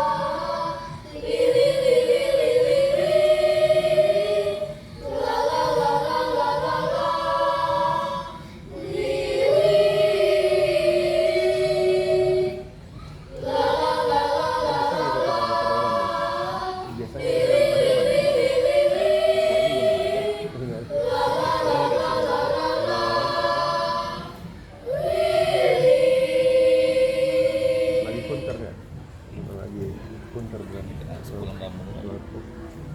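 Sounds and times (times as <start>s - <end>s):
children's choir singing: 0.0s - 28.8s.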